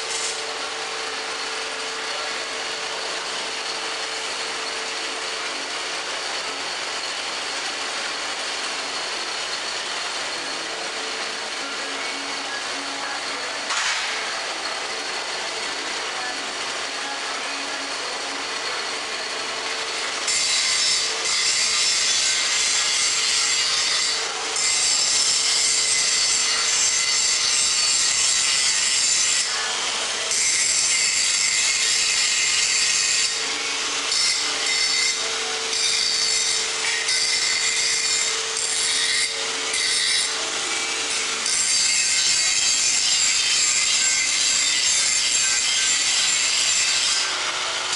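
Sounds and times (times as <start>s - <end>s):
mixer machine humming and churning: 0.0s - 47.9s.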